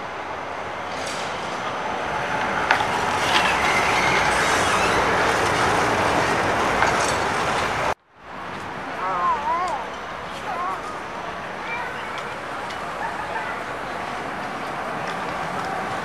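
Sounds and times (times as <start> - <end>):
tram wheels rolling on rails: 0.0 - 16.0.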